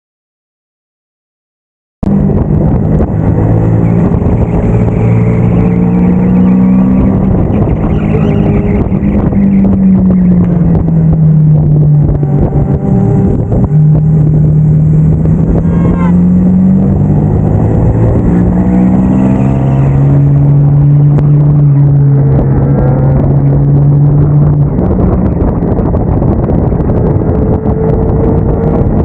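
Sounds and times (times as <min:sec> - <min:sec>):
motorcycle engine revving: 0:02.0 - 0:29.0.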